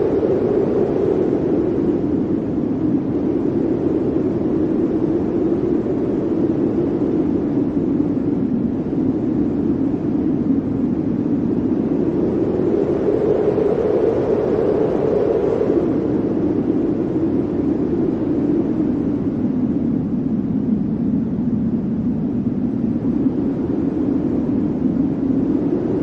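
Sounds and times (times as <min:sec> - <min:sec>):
blizzard wind roaring: 0:00.0 - 0:26.0.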